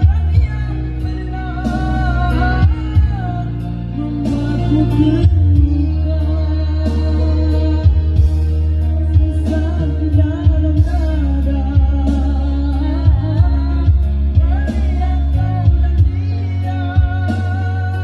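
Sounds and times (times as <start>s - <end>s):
karaoke backing track: 0.0s - 18.0s
man singing into microphone: 0.0s - 18.0s.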